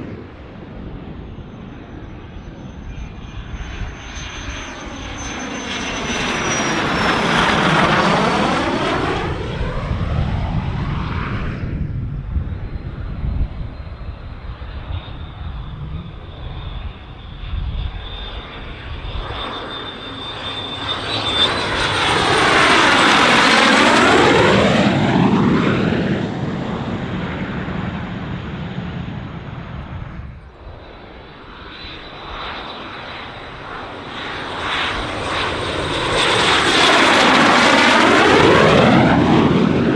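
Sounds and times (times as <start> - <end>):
high jet whine: 0.0 - 39.9
jet aircraft passing overhead: 0.0 - 39.9.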